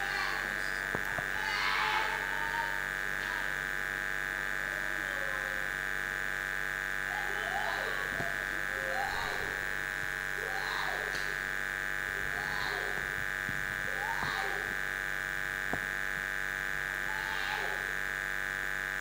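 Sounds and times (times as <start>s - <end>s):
high-pitched electrical buzz: 0.0s - 19.0s.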